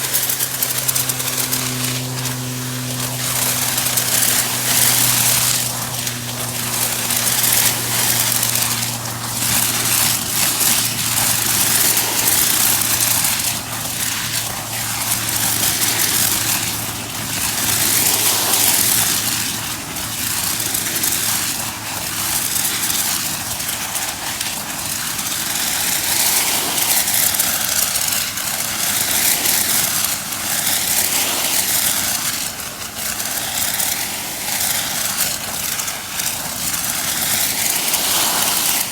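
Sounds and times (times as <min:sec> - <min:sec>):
pressure washer engine running: 0:00.0 - 0:38.9
pressure washer jet spraying: 0:00.0 - 0:38.9.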